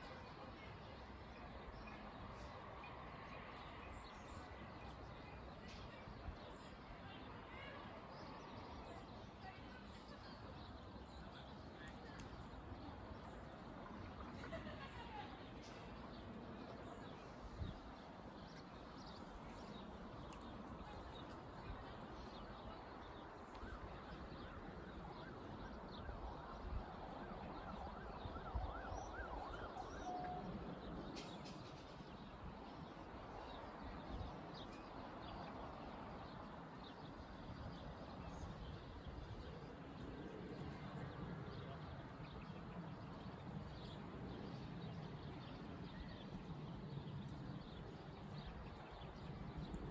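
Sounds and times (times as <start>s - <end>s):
distant town murmur: 0.0s - 49.9s.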